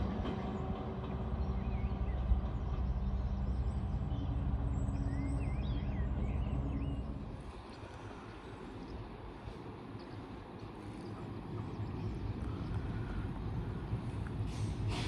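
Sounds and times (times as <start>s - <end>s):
train rumble: 0.0s - 15.0s
birds chirping: 0.5s - 13.8s.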